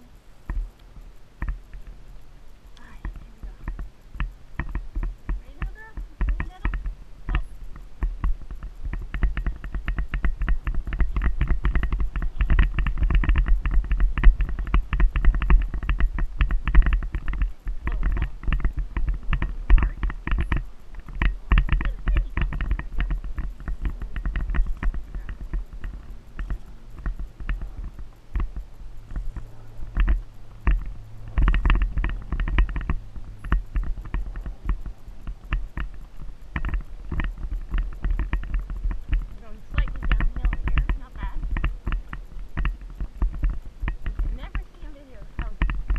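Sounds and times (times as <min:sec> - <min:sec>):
horse hoofbeats: 0:00.0 - 0:45.9
wind rumble on microphone: 0:00.0 - 0:45.9.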